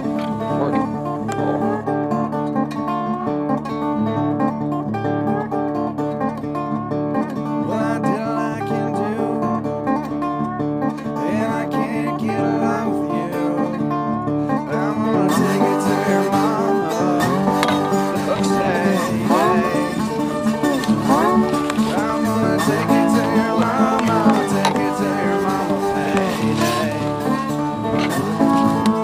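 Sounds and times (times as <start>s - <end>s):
country acoustic guitar picking: 0.0s - 29.0s.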